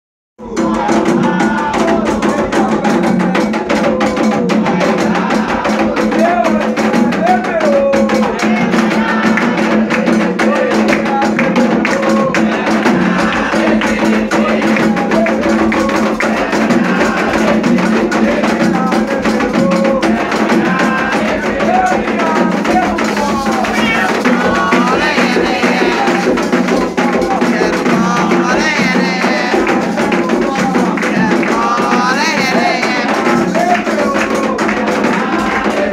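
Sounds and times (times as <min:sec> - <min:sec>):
group singing a chant: 0:00.4 - 0:35.9
hand drums fast rhythm: 0:00.4 - 0:35.9.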